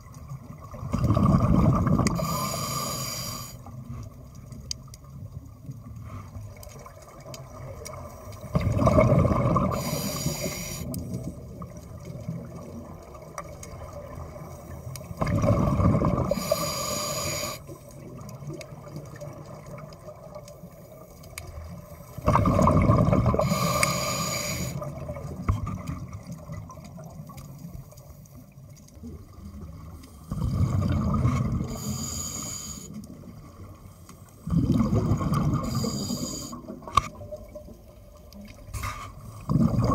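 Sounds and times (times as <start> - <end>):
exhaled bubbles rushing underwater: 0.0 - 2.8, 5.0 - 32.4, 33.0 - 39.9.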